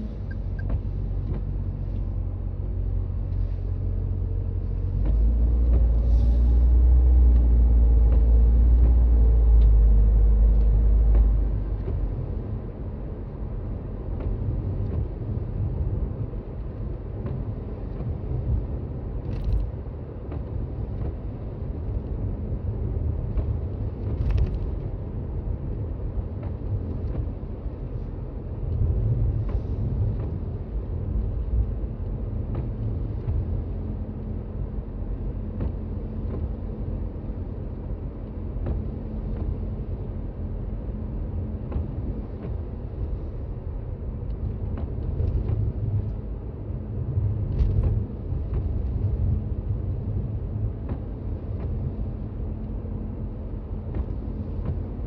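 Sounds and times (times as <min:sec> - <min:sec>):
car tyres and engine rumbling: 0:00.0 - 0:55.0.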